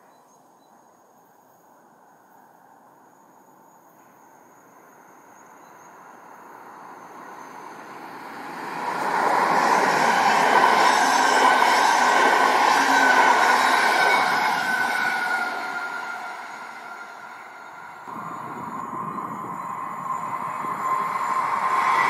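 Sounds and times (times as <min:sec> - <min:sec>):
train passing on rails: 0:01.8 - 0:22.0.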